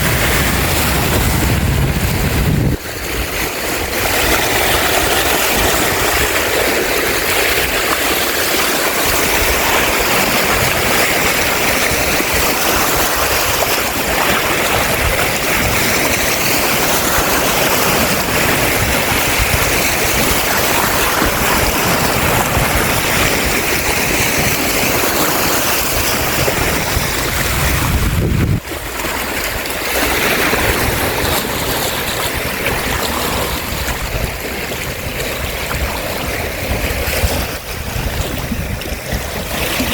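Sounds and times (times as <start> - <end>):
waves washing onto shore: 0.0 - 39.9
wind buffeting microphone: 0.0 - 39.9.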